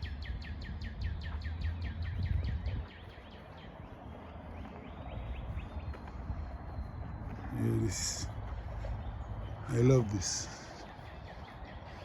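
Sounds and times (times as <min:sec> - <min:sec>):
low wind rumble: 0:00.0 - 0:12.0
songbird singing: 0:00.0 - 0:12.0.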